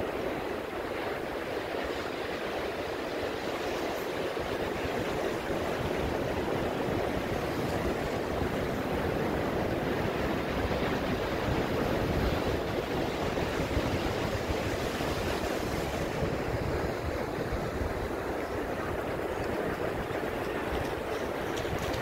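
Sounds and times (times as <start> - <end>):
ocean waves washing on beach: 0.0 - 22.0.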